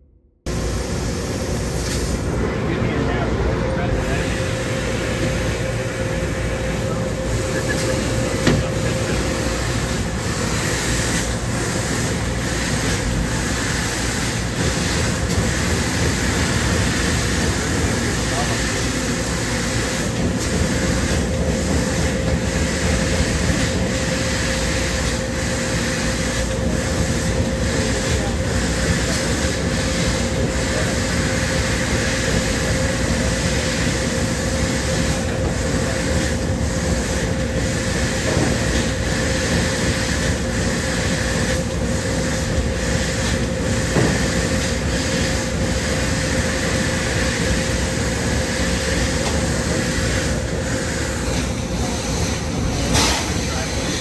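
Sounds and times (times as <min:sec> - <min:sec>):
laser cutter rushing hiss: 0:00.5 - 0:54.0.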